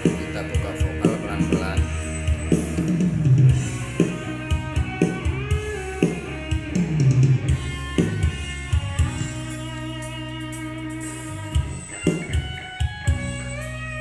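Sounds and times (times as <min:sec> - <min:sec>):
drum kit kick and snare: 0:00.0 - 0:13.8
bass guitar: 0:00.0 - 0:14.0
electric guitar: 0:00.0 - 0:14.0.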